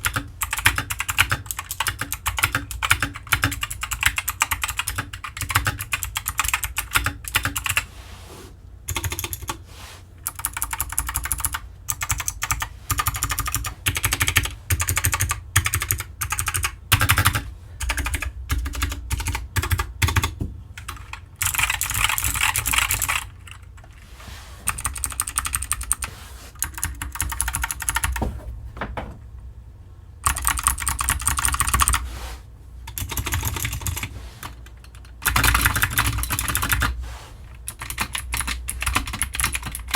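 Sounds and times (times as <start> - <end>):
clicky mechanical keyboard typing: 0.0 - 7.8, 8.9 - 9.6, 10.2 - 23.9, 24.7 - 28.2, 30.2 - 32.0, 32.9 - 37.0, 37.7 - 39.9.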